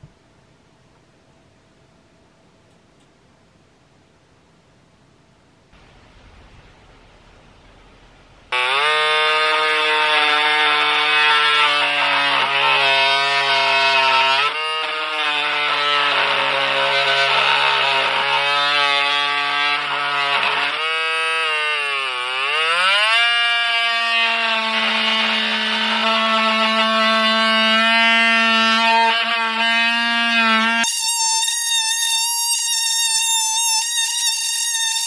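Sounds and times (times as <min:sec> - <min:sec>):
oscillating saw cutting wood: 0:06.8 - 0:35.0.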